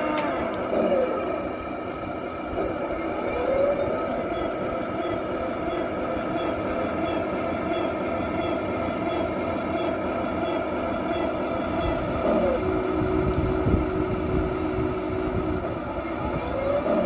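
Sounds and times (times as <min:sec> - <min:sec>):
toy tank engine hum: 0:00.0 - 0:17.0.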